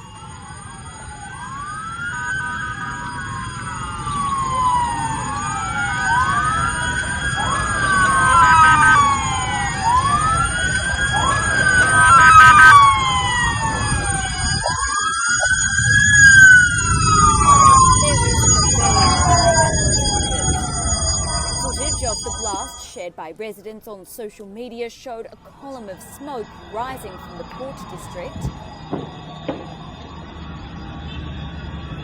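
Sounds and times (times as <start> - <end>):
low rumble of traffic: 0.0 - 22.9, 25.8 - 32.0
emergency vehicle sirens wailing: 0.0 - 23.1, 25.6 - 32.0.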